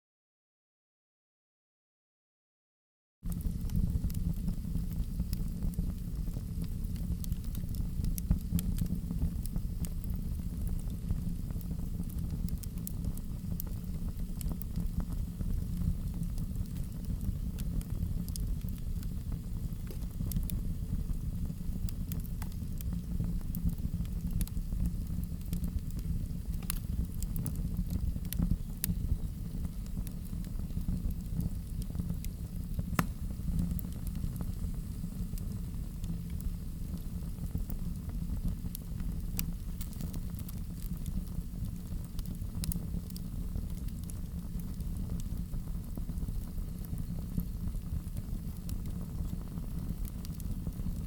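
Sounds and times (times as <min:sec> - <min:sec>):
low rumble of flames: 0:03.2 - 0:51.0
fire pops and snaps: 0:03.3 - 0:51.0.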